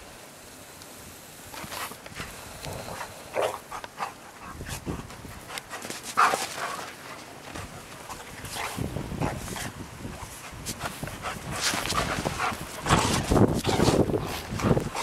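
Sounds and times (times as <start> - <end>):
dogs vocalizing while play-fighting: 1.6 - 15.0.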